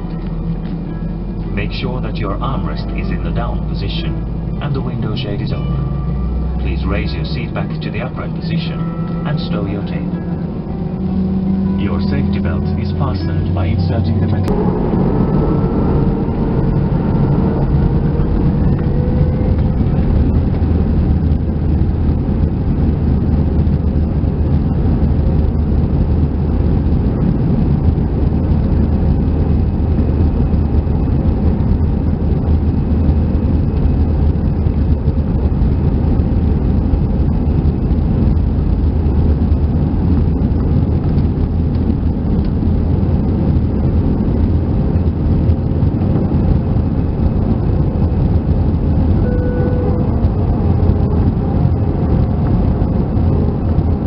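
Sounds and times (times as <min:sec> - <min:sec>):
faint engine whine: 0:00.0 - 0:54.0
jet engine and runway rumble: 0:00.0 - 0:54.0.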